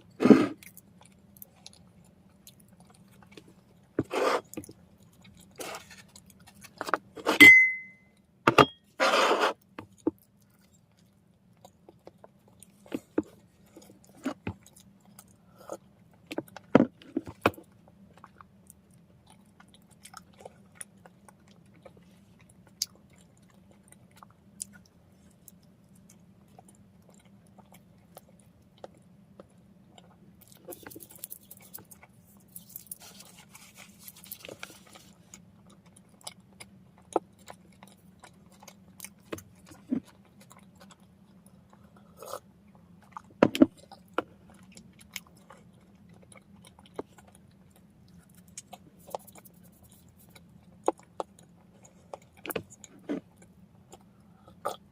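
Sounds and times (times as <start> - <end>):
person chewing bread: 0.0 - 8.1, 9.0 - 54.9
low steady hum: 0.0 - 54.9.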